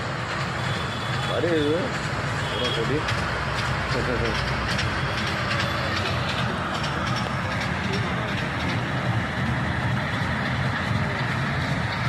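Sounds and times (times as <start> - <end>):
toy train rumbling: 0.0 - 12.0
voices: 1.1 - 12.0.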